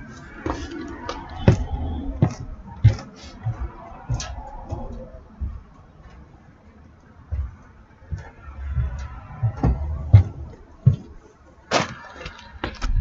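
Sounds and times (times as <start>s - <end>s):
footsteps walking: 0.0s - 13.0s.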